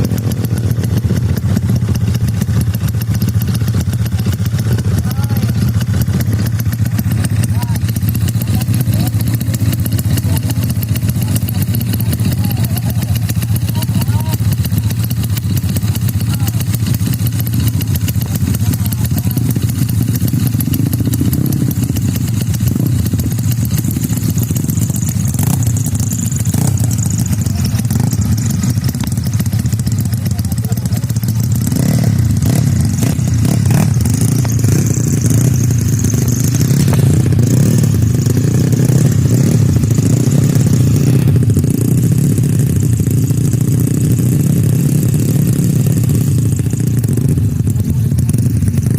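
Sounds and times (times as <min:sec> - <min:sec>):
scooter engine droning: 0:00.0 - 0:48.9.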